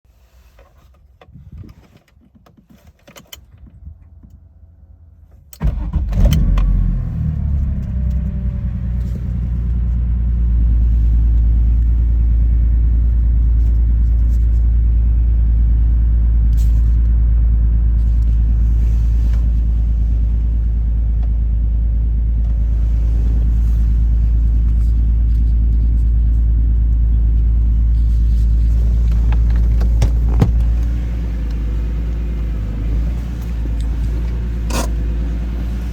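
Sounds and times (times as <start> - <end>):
car engine starting and idling: 3.5 - 35.9.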